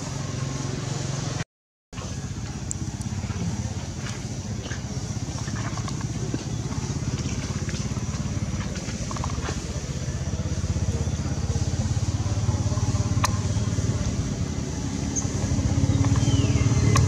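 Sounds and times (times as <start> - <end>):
motor running at low revs: 2.0 - 17.0.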